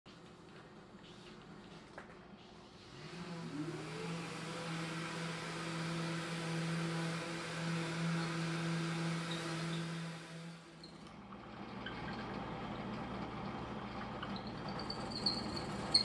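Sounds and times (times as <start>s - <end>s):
drill press motor humming: 2.8s - 16.0s.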